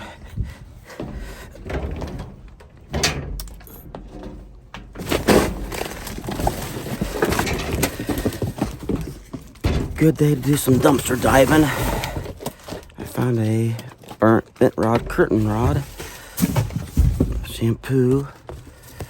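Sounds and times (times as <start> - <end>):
knocks and rustling of trash: 0.0 - 19.0.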